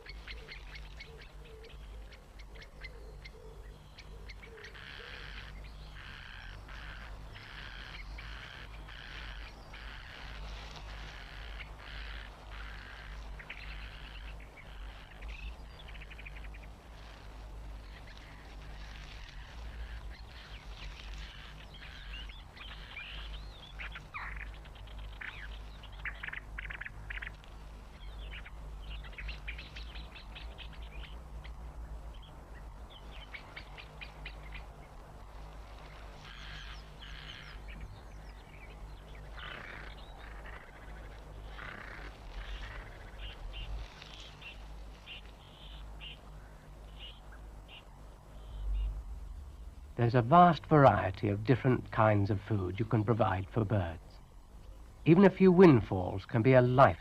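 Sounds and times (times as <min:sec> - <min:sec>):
birds calling and chattering: 0:00.0 - 0:57.0
steady low hum: 0:00.0 - 0:57.0.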